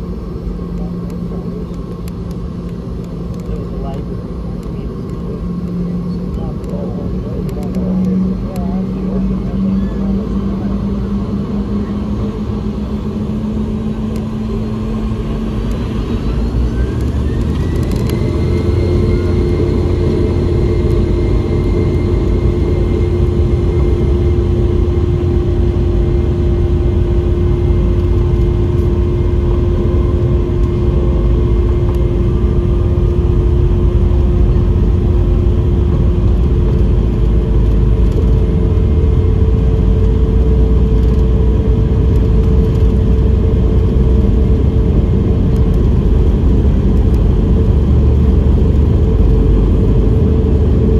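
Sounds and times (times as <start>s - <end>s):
jet engine whine: 0.0s - 50.9s
low rumble: 0.0s - 50.9s.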